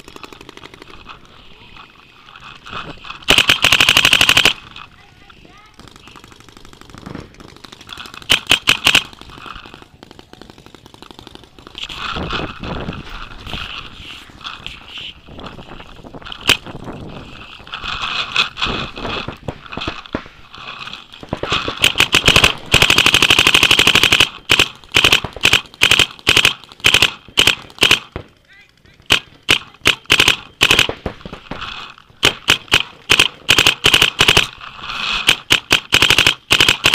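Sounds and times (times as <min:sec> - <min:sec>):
paintball markers firing: 0:00.0 - 0:36.9.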